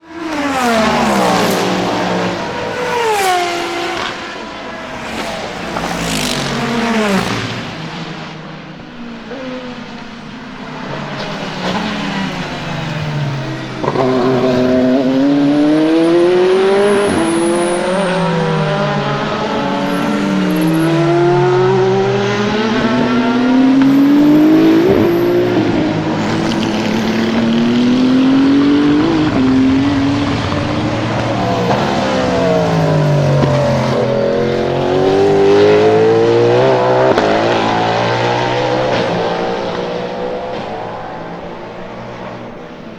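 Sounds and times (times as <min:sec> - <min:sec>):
racing cars passing by: 0:00.0 - 0:42.9
racing engine accelerating through gears: 0:00.0 - 0:42.9.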